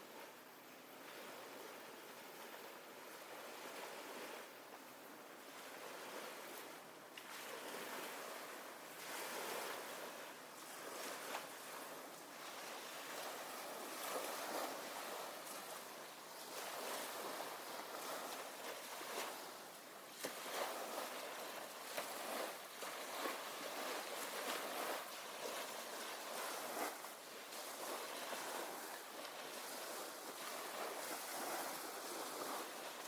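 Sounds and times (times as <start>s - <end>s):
small waves washing onto beach: 0.0s - 33.0s.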